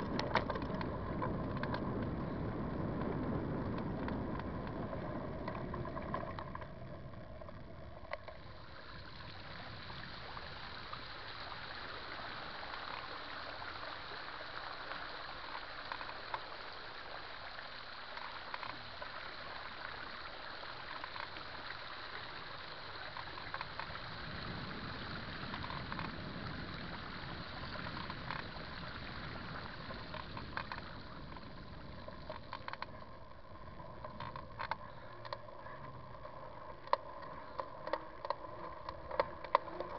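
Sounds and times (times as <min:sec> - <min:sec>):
floodwater rushing in creek: 0:00.0 - 0:39.9
low water rumble: 0:00.0 - 0:39.9.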